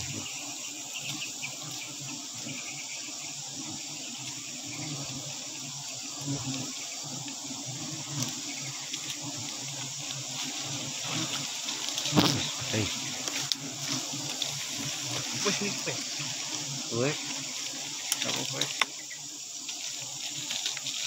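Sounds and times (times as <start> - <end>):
bees buzzing: 0.0 - 21.0
high hiss: 0.0 - 21.0.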